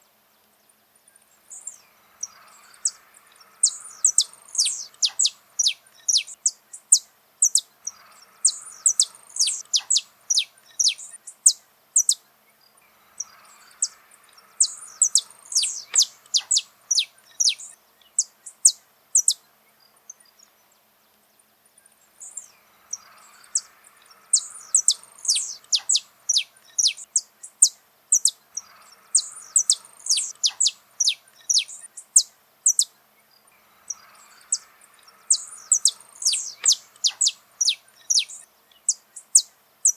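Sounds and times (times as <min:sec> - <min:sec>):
finch singing: 0:01.4 - 0:20.6, 0:21.9 - 0:39.9.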